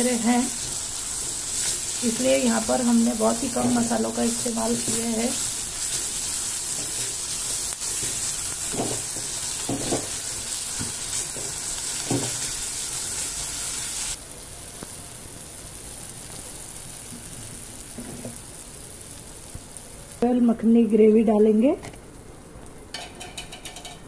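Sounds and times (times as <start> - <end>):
masala sizzling in oil: 0.0 - 24.0.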